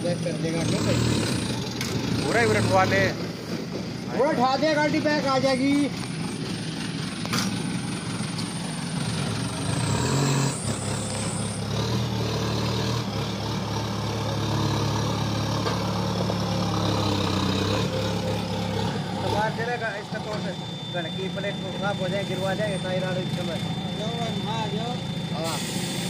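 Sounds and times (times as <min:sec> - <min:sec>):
diesel crane engine running: 0:00.0 - 0:26.0.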